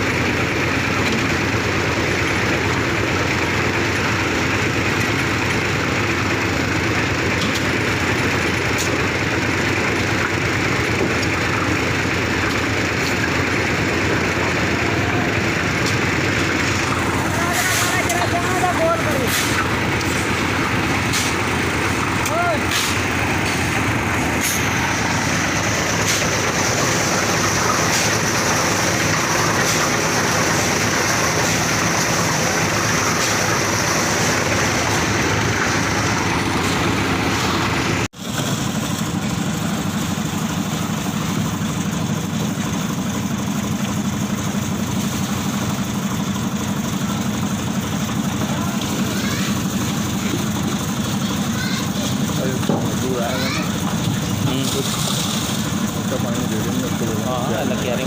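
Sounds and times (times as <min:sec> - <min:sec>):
deep steady hum: 0:00.0 - 0:58.0
engine running: 0:00.0 - 0:58.0.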